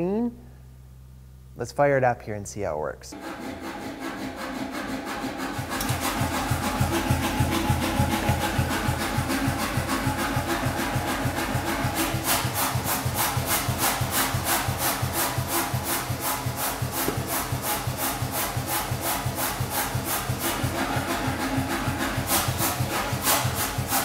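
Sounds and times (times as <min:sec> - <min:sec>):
pneumatic power hammer pounding: 0:03.2 - 0:24.0.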